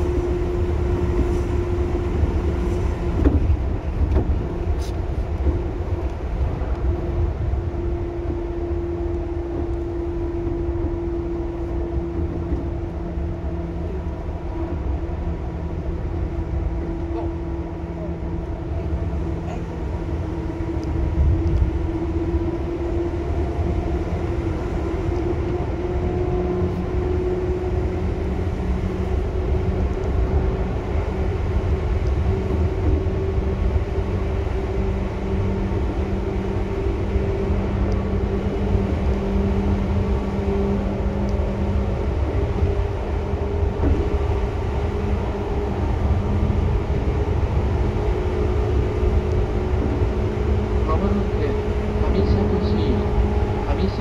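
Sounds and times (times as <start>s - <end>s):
running gear hum: 0.0s - 54.0s
train wheels rumbling on rails: 0.0s - 54.0s.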